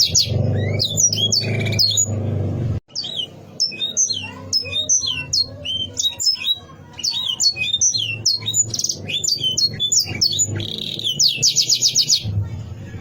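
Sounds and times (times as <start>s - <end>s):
canary singing: 0.0s - 12.4s.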